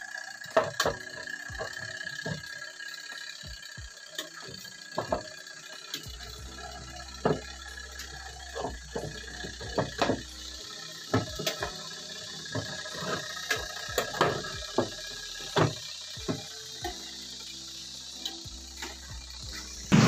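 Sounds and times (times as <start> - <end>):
water sloshing in washing machine: 0.0 - 17.0
low hum: 0.0 - 20.0
steady hiss: 0.0 - 20.0.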